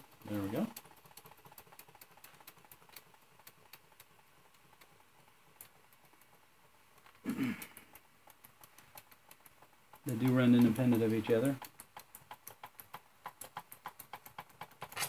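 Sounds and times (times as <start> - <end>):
toy steam engine ticking: 0.0 - 6.8, 7.6 - 15.0.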